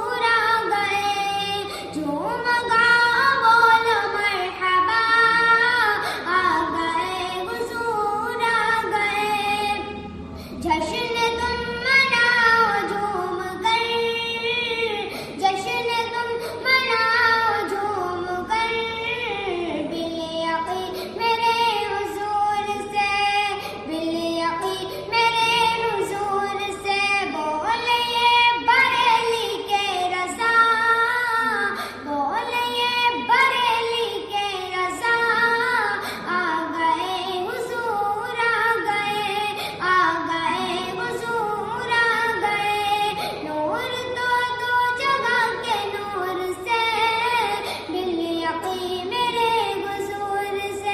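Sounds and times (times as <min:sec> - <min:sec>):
high voice singing devotional hymn: 0:00.0 - 0:50.9.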